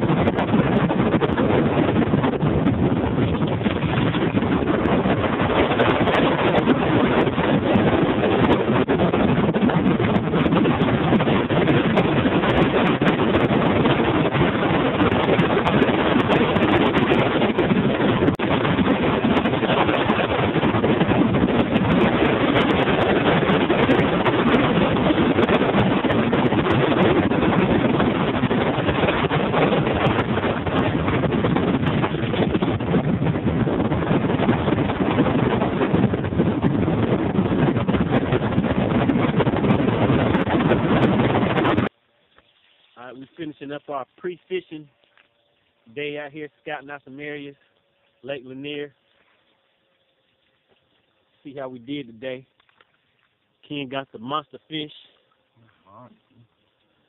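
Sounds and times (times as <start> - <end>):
outboard motor running: 0.0 - 54.1
wind noise on microphone: 0.0 - 57.0.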